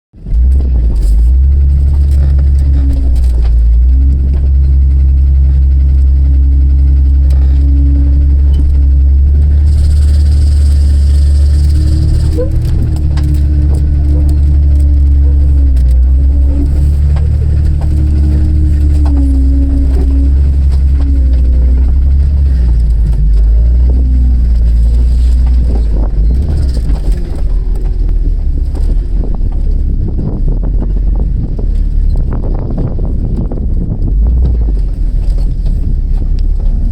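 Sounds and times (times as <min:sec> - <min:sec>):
car engine idling: 0:00.2 - 0:36.9.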